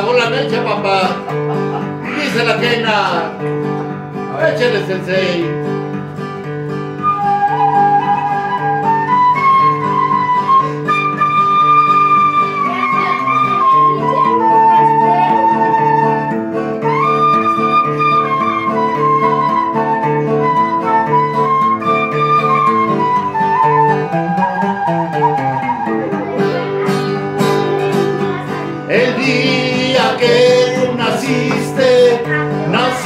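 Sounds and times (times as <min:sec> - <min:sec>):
acoustic guitar strumming: 0:00.0 - 0:33.0
flute melody: 0:05.4 - 0:33.0.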